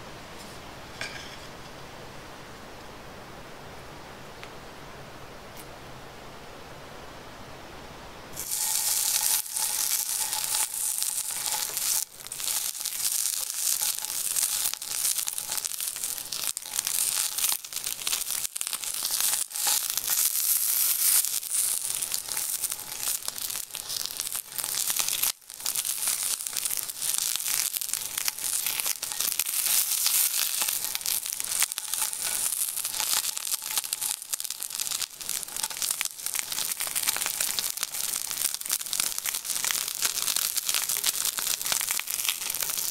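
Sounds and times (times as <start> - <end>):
steak sizzling in a pan: 8.3 - 42.9.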